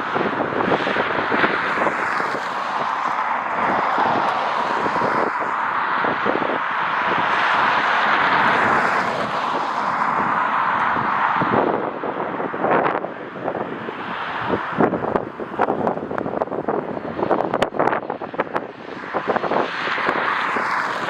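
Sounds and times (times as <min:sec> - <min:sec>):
jet engines roaring: 0:00.0 - 0:21.0
wind buffeting microphone: 0:00.0 - 0:21.0.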